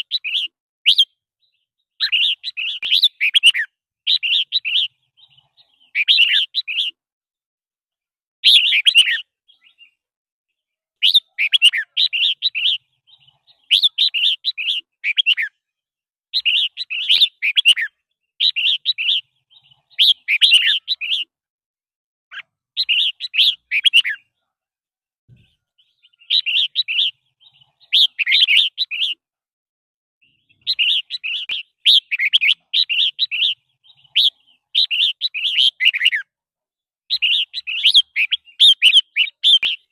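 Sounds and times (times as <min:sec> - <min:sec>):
bird singing: 0:00.0 - 0:07.0, 0:08.4 - 0:10.0, 0:10.6 - 0:15.6, 0:16.3 - 0:21.4, 0:22.3 - 0:24.5, 0:25.3 - 0:29.2, 0:30.2 - 0:36.3, 0:37.1 - 0:39.9.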